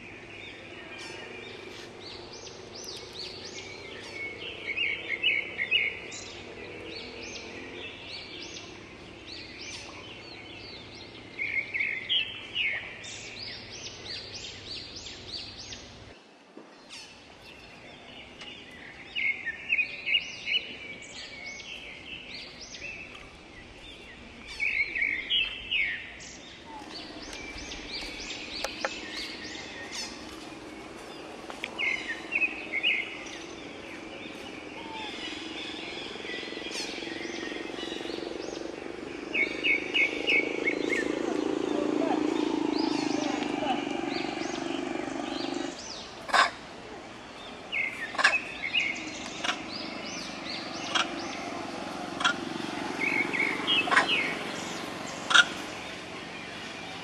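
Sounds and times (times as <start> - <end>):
bird chirping: 0.0 - 16.2, 16.8 - 57.0
outdoor background noise: 0.0 - 57.0.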